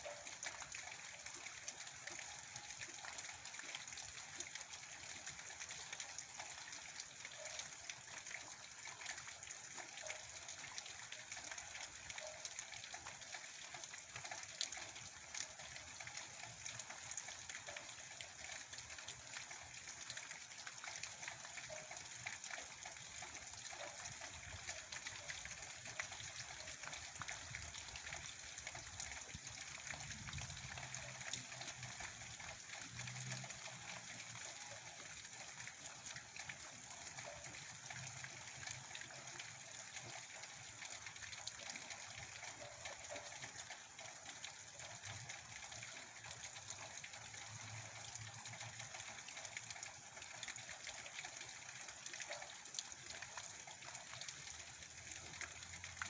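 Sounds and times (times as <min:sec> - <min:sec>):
steady rain: 0:01.4 - 0:56.0.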